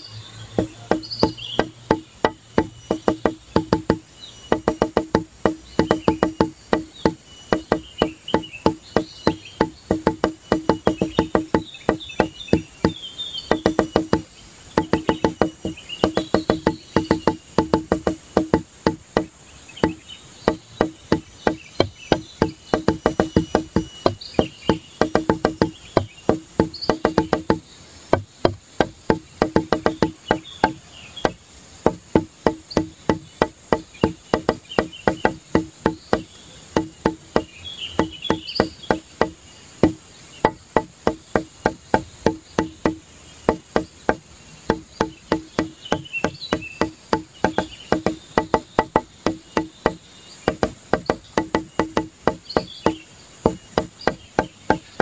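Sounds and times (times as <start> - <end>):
music with fast clicking beat: 0.0 - 55.0.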